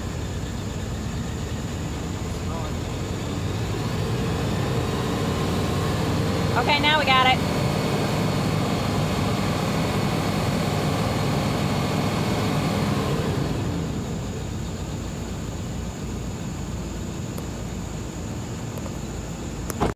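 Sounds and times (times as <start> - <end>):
truck engine rough idle: 0.0 - 19.9.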